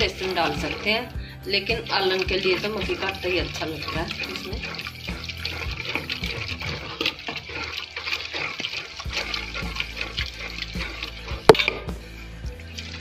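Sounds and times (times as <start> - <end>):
wet squelching and sloshing: 0.0 - 13.0.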